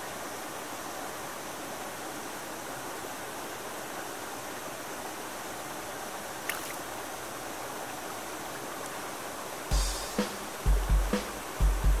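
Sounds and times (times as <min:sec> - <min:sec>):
stream running over rock: 0:00.0 - 0:11.8.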